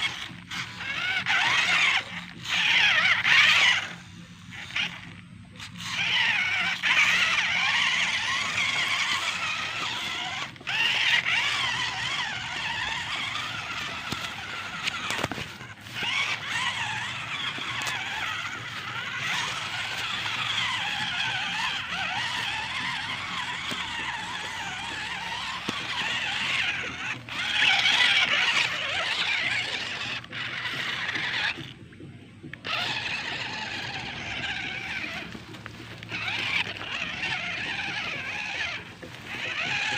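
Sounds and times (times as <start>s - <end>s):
rc truck motor whining: 0.0s - 39.9s.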